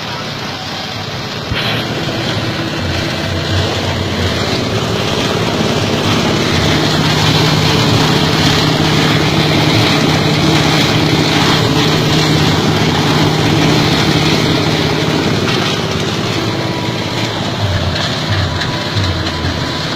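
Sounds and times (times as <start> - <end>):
diesel engine driving a shredder: 0.0 - 19.9.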